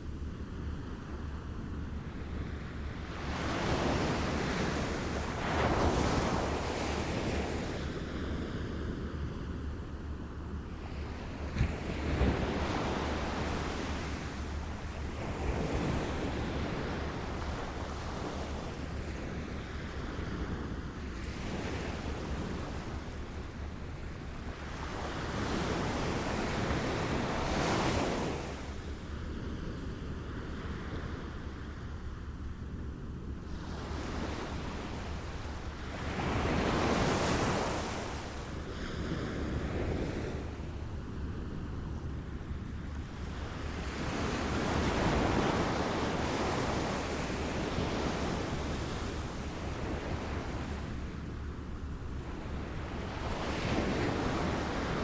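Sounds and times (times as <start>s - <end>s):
wind rumble on microphone: 0.0s - 55.0s
small waves lapping ashore: 2.1s - 8.9s, 10.8s - 31.9s, 33.5s - 41.6s, 42.4s - 55.0s.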